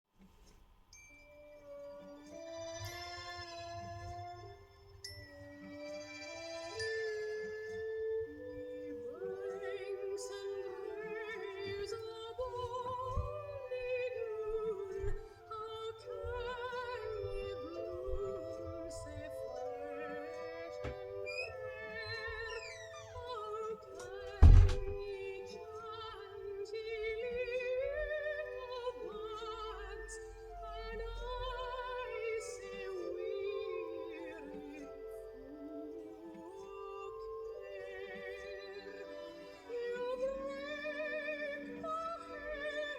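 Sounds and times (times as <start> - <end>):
person singing with vibrato: 5.3 - 42.9.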